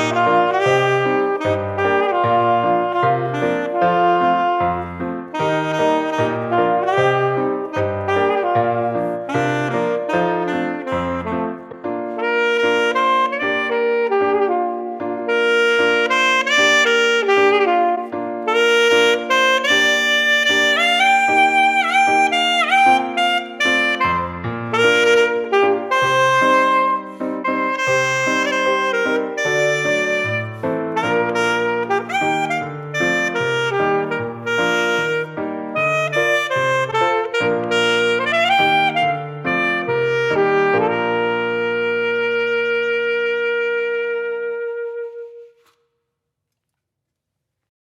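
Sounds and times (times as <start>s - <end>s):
saxophone melody: 0.0s - 45.8s.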